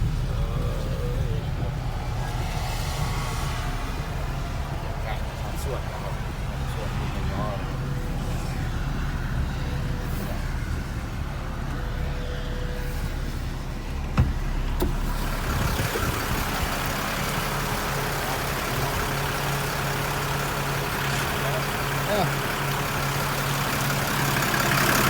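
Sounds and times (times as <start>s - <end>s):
engine idling hum: 0.0s - 25.0s.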